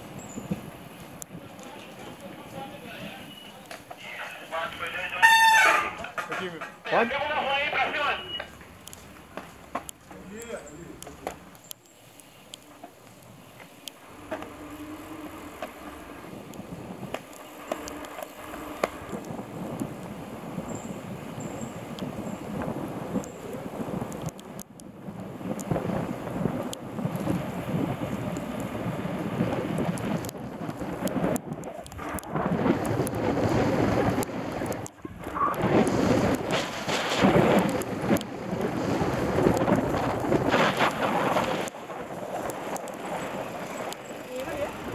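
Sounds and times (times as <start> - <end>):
wind buffeting microphone: 0.0 - 3.3, 4.1 - 44.9
bike clicks and knocks over bumps: 0.0 - 4.1, 5.9 - 7.1, 8.4 - 44.9
bike tyre noise on concrete: 0.0 - 44.9.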